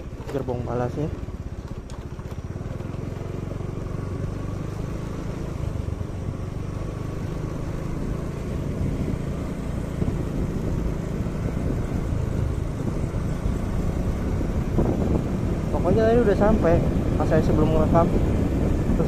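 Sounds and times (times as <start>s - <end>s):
vehicle engine rumbling drone: 0.0s - 19.0s.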